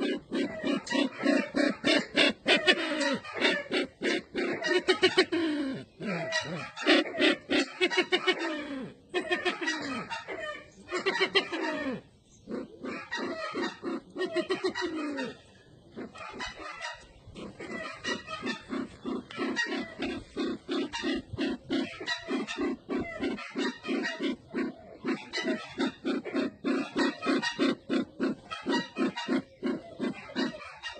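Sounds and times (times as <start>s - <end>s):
bird clucking notes: 0.0s - 30.9s.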